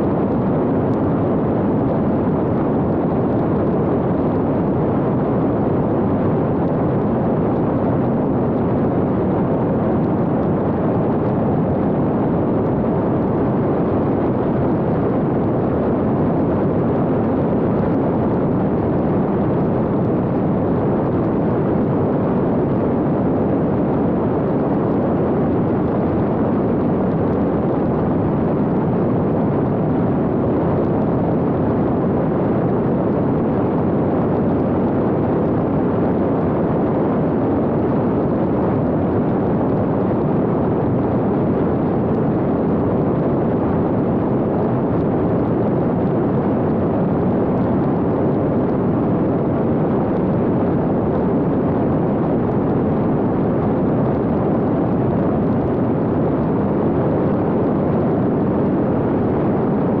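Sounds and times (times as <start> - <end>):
airflow over microphone: 0.0 - 60.0.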